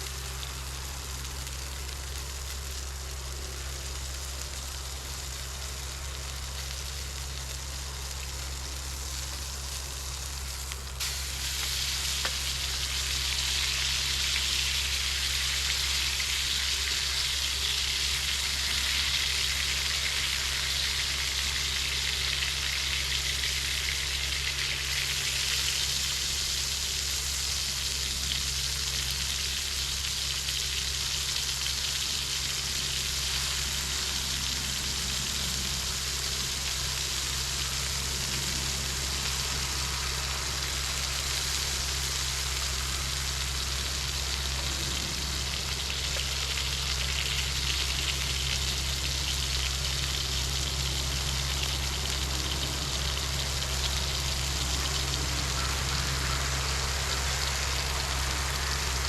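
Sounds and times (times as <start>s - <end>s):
constant low hum: 0.0s - 59.0s
crackling sizzle: 0.0s - 59.0s.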